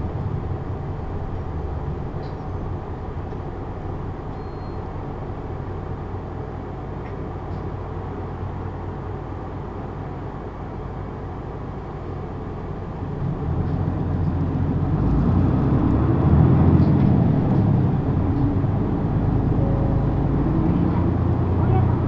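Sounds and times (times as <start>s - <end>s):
bus engine running: 0.0s - 22.0s.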